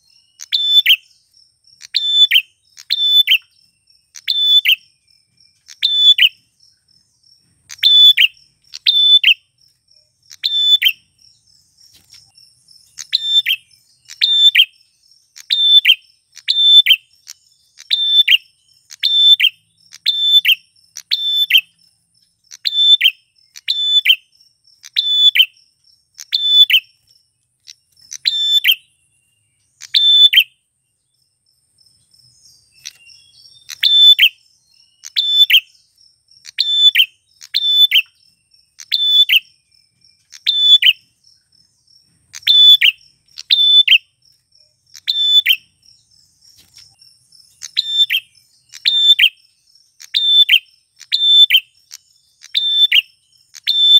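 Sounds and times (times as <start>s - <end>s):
bird singing sharp call notes: 0.0s - 31.1s, 31.9s - 53.9s.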